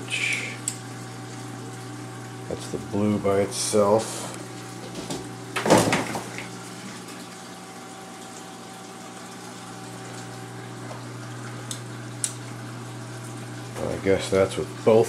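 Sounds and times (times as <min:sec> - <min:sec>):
aquarium pump hum: 0:00.0 - 0:15.0
water trickling: 0:00.1 - 0:03.8, 0:04.4 - 0:15.0.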